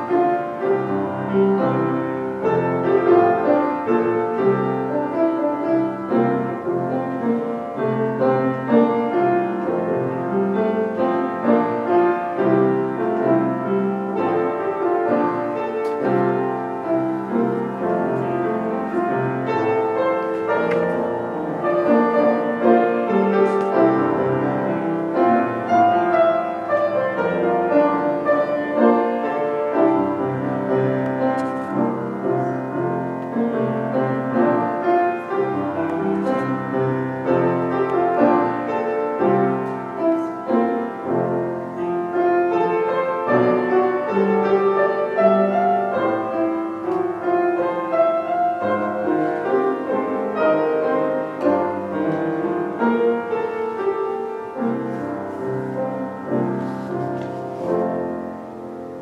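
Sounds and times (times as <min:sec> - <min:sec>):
slow classical piano piece: 0:00.0 - 0:59.0.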